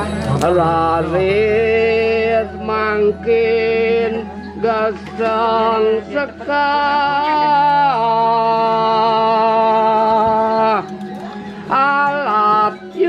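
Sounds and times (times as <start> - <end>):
person singing slow devotional song: 0.0 - 13.0.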